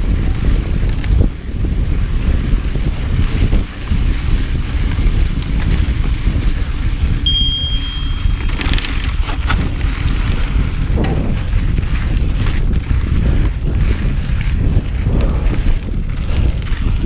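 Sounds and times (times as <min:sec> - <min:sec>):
bike tires rumbling on dirt: 0:00.0 - 0:17.0
wind buffeting microphone: 0:00.0 - 0:17.0
bike clicks and knocks: 0:03.2 - 0:17.0.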